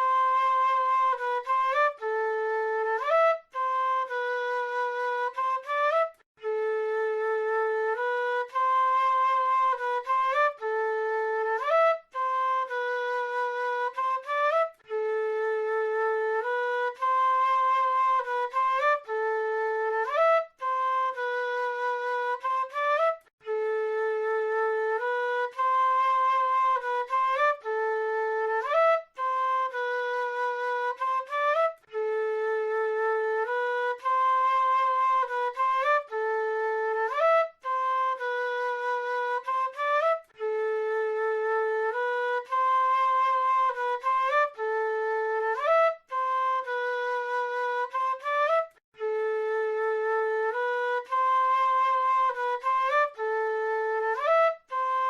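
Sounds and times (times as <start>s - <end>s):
flute playing slow melody: 0.0s - 55.0s.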